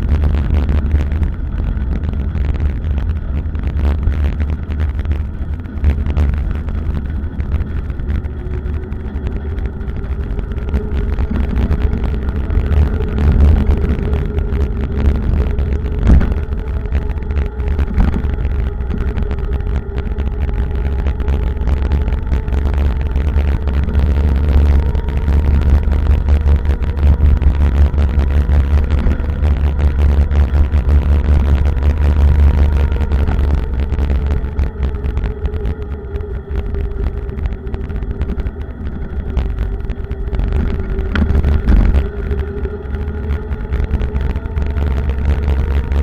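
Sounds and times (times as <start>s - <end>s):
faint steady hum: 0.0s - 46.0s
road noise: 0.0s - 46.0s.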